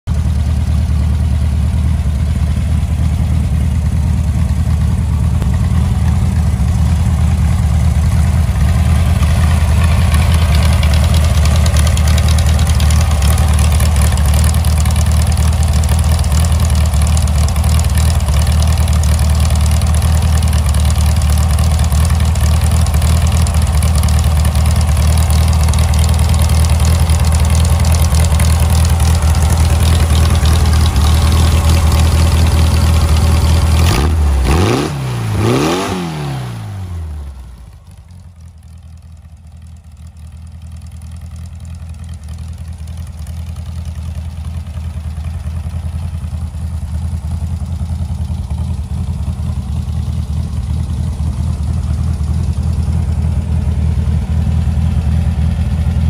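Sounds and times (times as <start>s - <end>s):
dune buggy engine idling: 0.1s - 56.0s.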